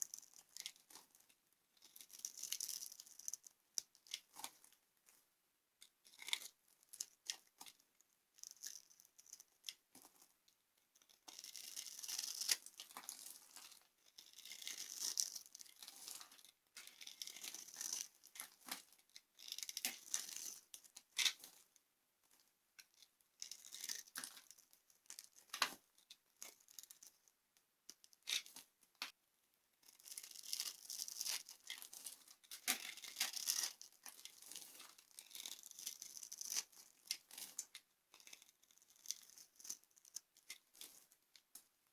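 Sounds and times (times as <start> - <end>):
dry soap crunching and crackling: 0.0 - 5.1, 5.8 - 21.6, 22.2 - 29.2, 29.8 - 41.9.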